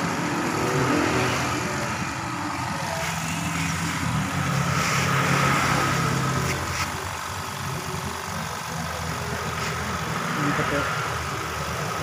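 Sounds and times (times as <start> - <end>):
printing machine mechanical hum: 0.0 - 12.0.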